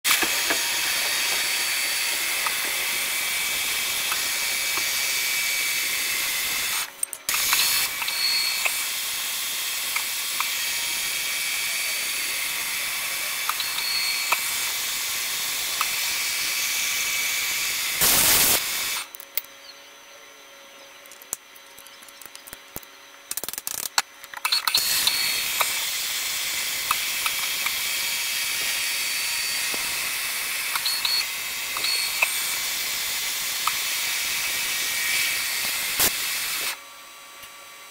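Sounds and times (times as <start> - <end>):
milling machine cutting metal: 0.1 - 19.1, 24.3 - 36.8.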